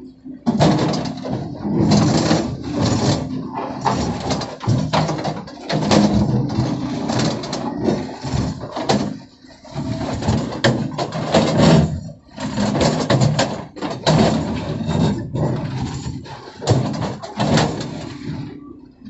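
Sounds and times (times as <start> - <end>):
excavator diesel engine running: 0.0 - 19.0
hydraulics working: 0.0 - 19.0
bucket scraping soil and stone: 0.5 - 18.7.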